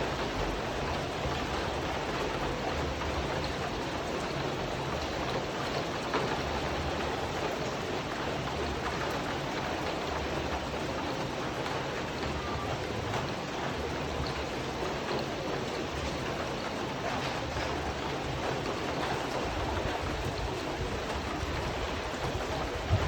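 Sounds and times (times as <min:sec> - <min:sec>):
rain on a tin roof: 0:00.0 - 0:23.0.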